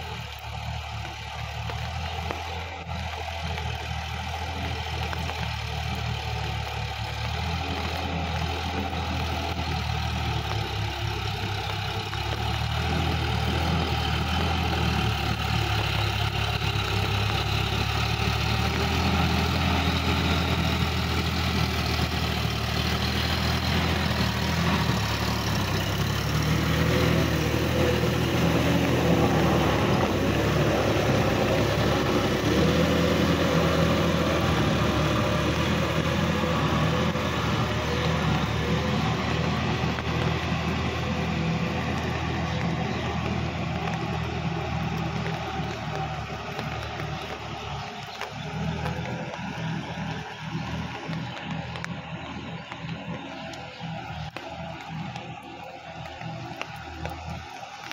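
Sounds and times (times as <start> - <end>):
rotary tiller churning water: 0.0 - 57.9
tractor diesel engine running: 0.0 - 57.9.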